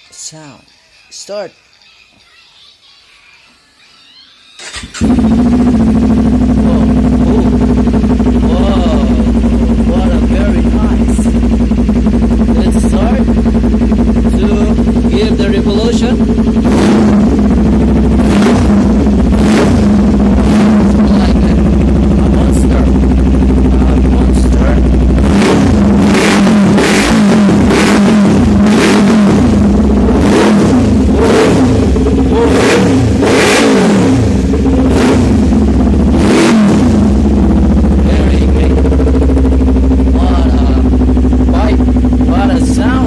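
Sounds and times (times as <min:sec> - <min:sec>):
motorcycle engine idling and revving: 0:04.6 - 0:43.0.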